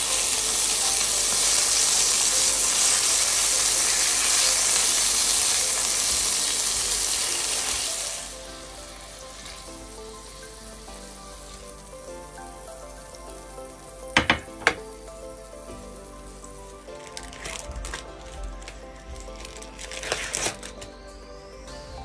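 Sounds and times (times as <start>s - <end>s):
meat sizzling in frying pan: 0.0s - 20.8s.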